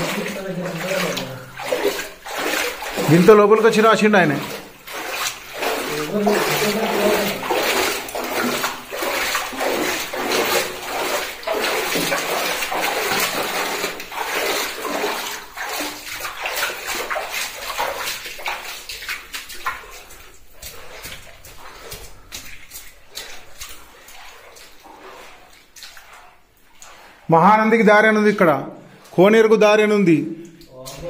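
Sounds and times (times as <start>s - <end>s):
feet wading through shallow water: 0.0s - 27.3s.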